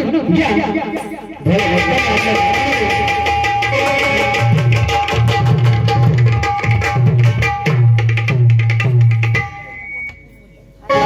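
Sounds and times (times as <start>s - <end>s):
held instrumental note: 0.3s - 11.0s
hand drum fast rhythm: 0.4s - 9.7s.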